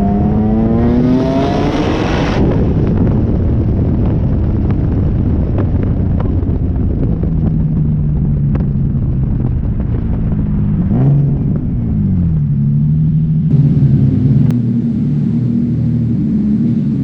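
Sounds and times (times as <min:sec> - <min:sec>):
car engine running: 0:02.8 - 0:17.0.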